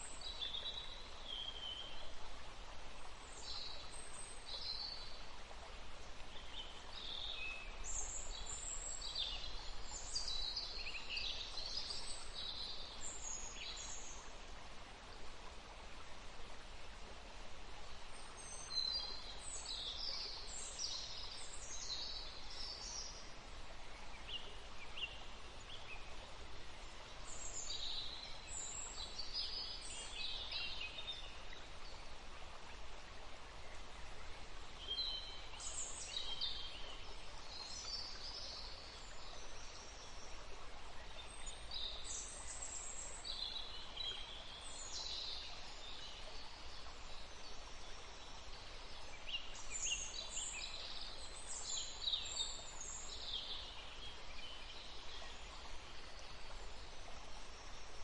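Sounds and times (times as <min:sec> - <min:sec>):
forest stream rushing: 0:00.0 - 0:58.0.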